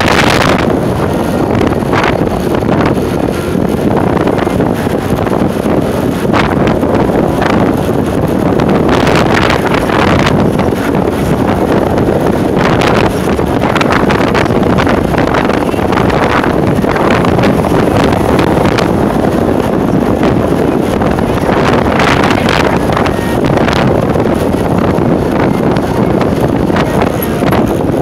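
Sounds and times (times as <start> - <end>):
road noise: 0.0 - 28.0
wind rushing over microphone: 0.0 - 28.0.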